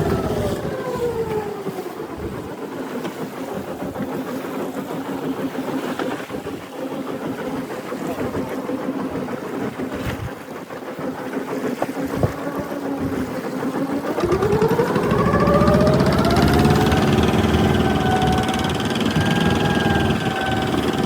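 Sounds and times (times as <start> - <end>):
boat engine idling and revving: 0.0 - 21.0.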